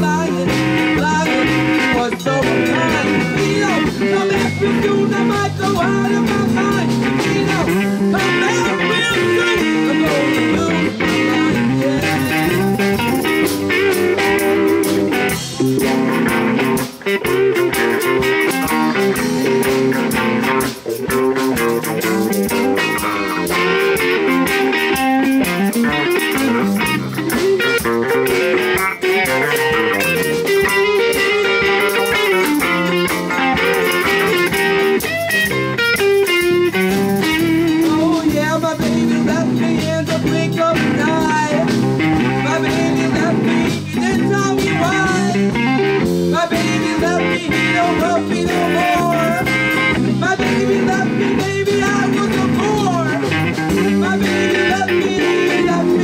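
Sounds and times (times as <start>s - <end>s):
band playing blues: 0.0s - 56.0s
electric guitar with bent notes: 0.0s - 56.0s.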